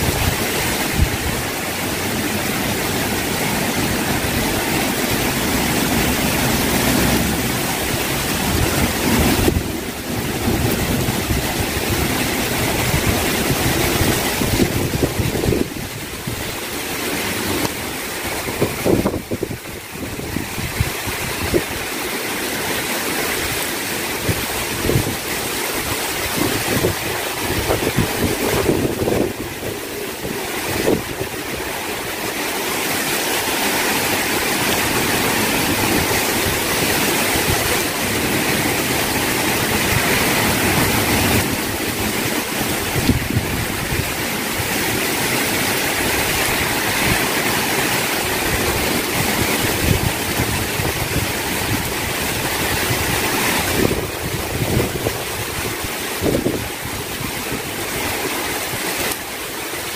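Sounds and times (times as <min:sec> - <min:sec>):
heavy rain pouring: 0:00.0 - 0:59.9
wind gusting on microphone: 0:00.0 - 0:59.9.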